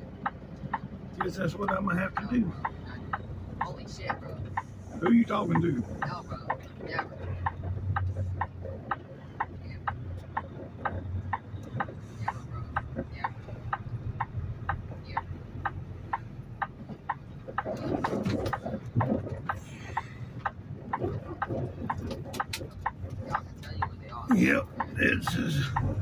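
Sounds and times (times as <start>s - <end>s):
diesel engine idling: 0.0s - 26.0s
turn signal ticking: 0.0s - 26.0s.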